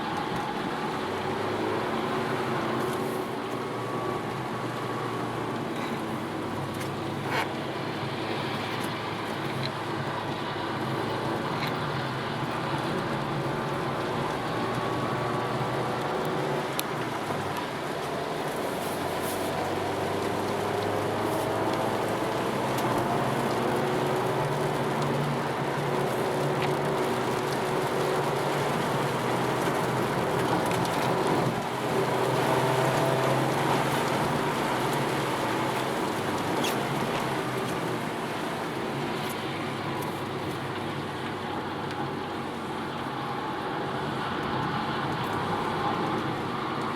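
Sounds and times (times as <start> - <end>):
car engine running under load: 0.0 - 46.9
tyre and road noise on wet track: 0.0 - 46.9.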